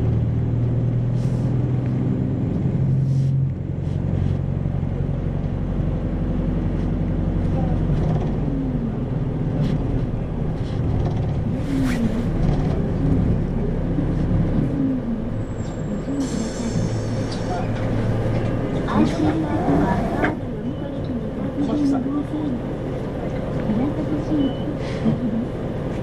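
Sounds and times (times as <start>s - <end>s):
bus diesel engine: 0.0s - 26.0s.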